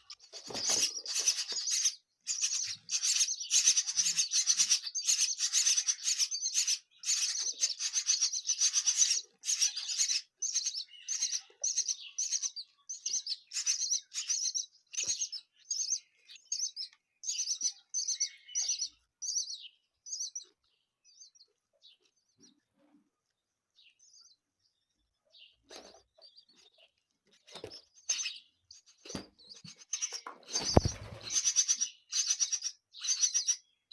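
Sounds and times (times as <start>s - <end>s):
nestlings begging chirps: 0.0s - 22.1s, 26.2s - 33.9s.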